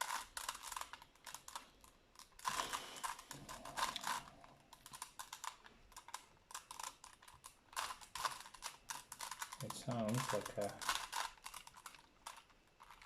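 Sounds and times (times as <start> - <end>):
puzzle cube layers clicking: 0.0 - 13.0.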